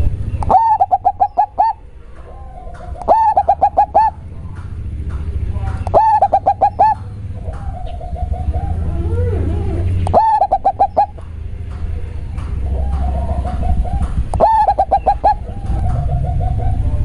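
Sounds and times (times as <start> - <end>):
dove cooing: 0.0 - 4.4, 5.8 - 17.0.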